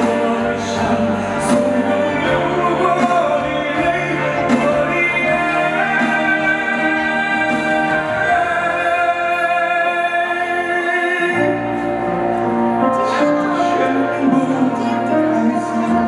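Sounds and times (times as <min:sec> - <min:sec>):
man singing into a microphone: 0:00.0 - 0:12.2, 0:12.8 - 0:16.0
instrumental accompaniment: 0:00.0 - 0:16.0.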